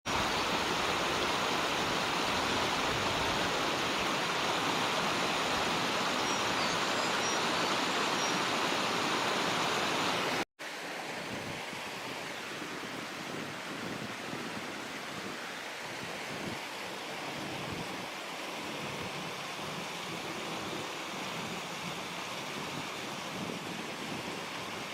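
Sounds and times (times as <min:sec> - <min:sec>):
stream rushing: 0:00.1 - 0:24.9.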